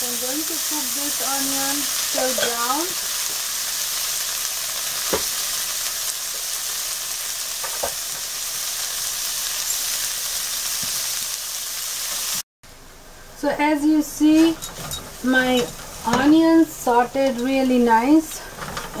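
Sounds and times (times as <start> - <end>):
onions sizzling in a pan: 0.0 - 12.4, 13.5 - 19.0.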